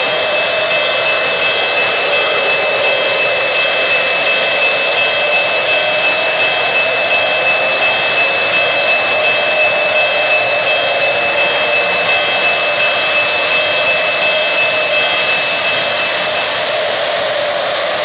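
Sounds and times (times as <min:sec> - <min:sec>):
high steady whine: 0:00.0 - 0:18.0
model train wheels rolling: 0:00.0 - 0:18.0.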